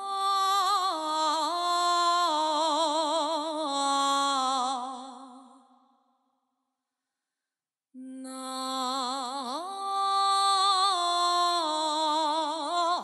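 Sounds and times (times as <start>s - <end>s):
woman singing unaccompanied: 0.0s - 5.6s, 8.0s - 13.0s.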